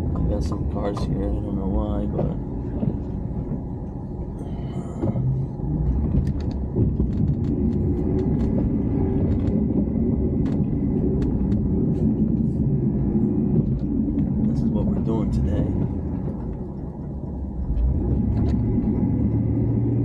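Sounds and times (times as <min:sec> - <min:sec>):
truck engine and tyre rumble: 0:00.0 - 0:20.0.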